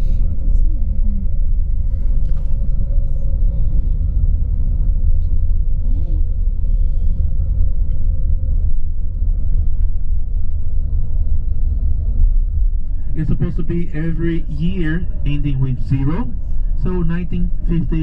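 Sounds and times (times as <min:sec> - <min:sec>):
coach engine and tyres rumbling: 0:00.0 - 0:18.0.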